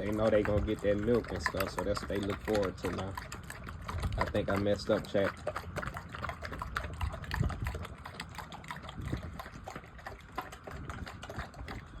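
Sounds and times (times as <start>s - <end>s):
dogs lapping milk: 0.0s - 12.0s.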